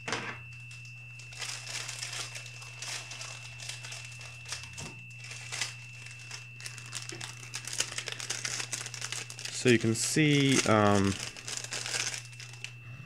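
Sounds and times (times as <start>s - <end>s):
plastic bag crinkling: 1.2s - 12.8s.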